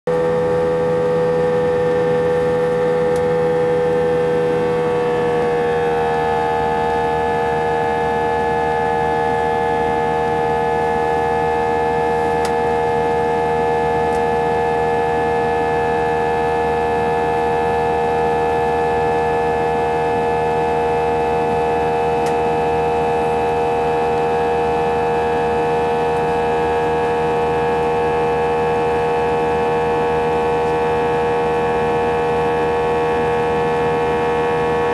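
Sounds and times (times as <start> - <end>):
jet engine droning in cabin: 0.1 - 34.9.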